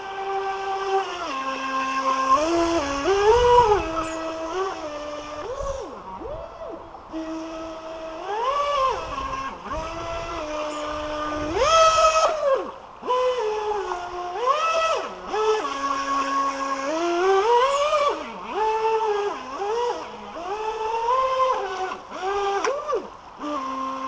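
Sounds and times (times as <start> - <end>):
electric motor whine of toy boat: 0.0 - 24.0.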